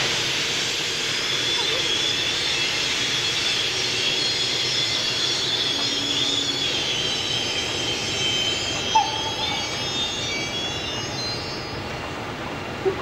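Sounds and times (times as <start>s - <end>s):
steam hissing: 0.0s - 12.8s
thin high whine: 0.6s - 13.0s.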